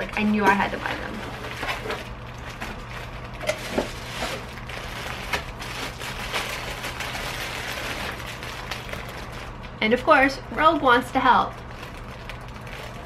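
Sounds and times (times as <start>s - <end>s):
plastic bag crinkling: 0.0s - 9.8s, 10.6s - 13.0s.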